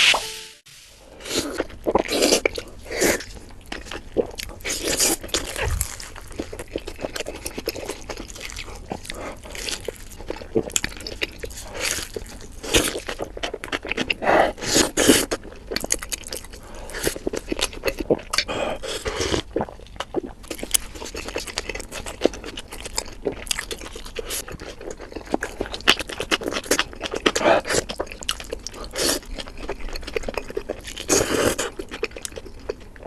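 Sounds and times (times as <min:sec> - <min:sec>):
crunching and chewing food: 0:01.2 - 0:33.0.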